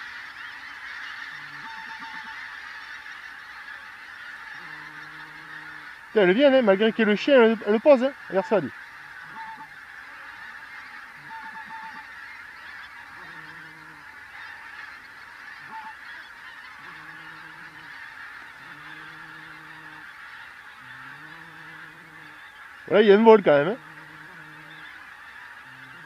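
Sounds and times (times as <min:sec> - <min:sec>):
flock of geese honking: 0:00.0 - 0:26.0.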